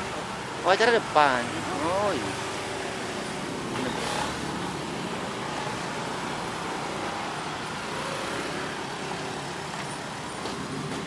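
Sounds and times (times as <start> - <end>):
road traffic rushing: 0.0 - 11.0.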